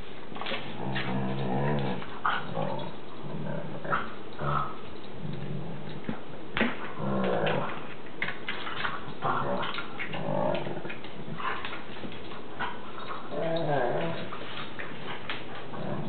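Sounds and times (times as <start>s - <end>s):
dogs growling and whining: 0.7s - 6.1s, 6.9s - 7.9s, 8.5s - 11.9s, 12.5s - 16.0s.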